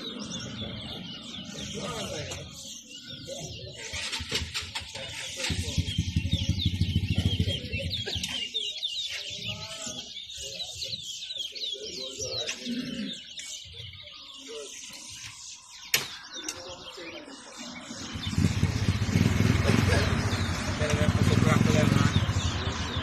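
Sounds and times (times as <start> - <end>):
finches chirping: 0.0 - 23.0.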